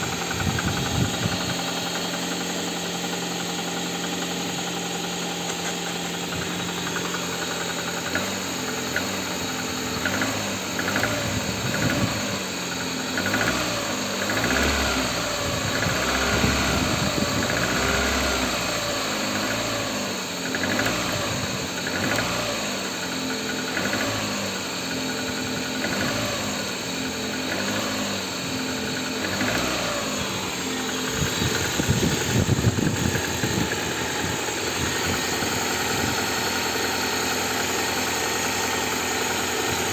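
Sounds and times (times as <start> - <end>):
knocking car engine revving: 0.0 - 39.9.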